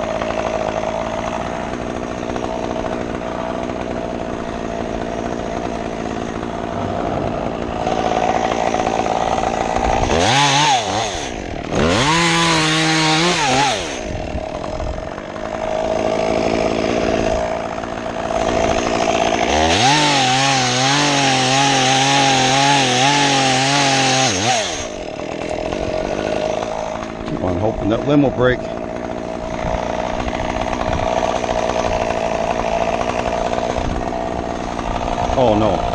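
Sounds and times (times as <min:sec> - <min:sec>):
chainsaw idling and revving: 0:00.0 - 0:35.9.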